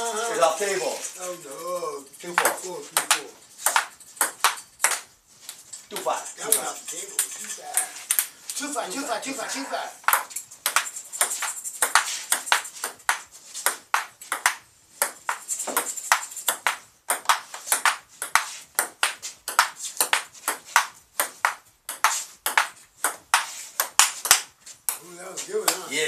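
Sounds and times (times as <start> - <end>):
ping-pong ball clicking: 2.4 - 8.4, 10.0 - 25.0.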